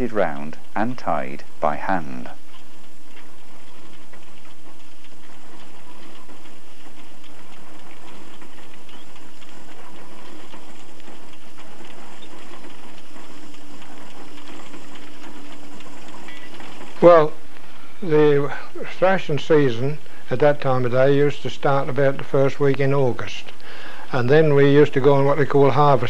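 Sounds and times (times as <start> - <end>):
threshing machine hum and clatter: 0.0 - 26.0.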